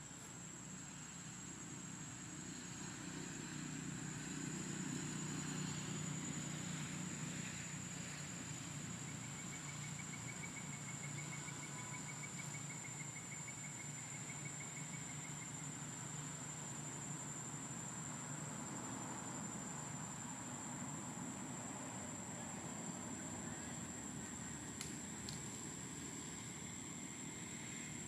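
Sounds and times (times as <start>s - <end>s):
pulsing insect trill: 0.0s - 28.0s.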